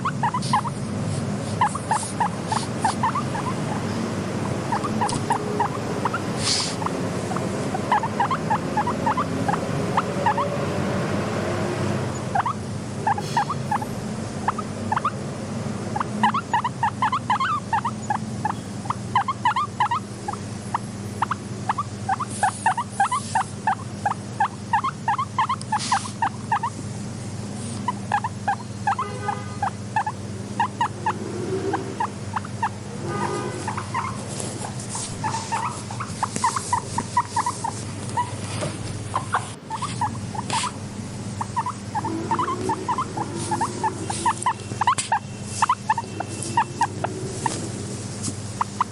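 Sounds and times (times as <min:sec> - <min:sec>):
guinea pig squeaking: 0:00.0 - 0:10.6, 0:12.1 - 0:15.2, 0:15.9 - 0:26.9, 0:27.6 - 0:48.9
steady low hum: 0:00.0 - 0:48.9.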